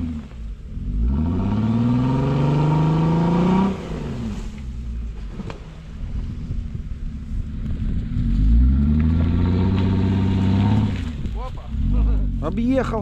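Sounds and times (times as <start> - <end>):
car engine revving: 0.0 - 6.0, 7.0 - 13.0.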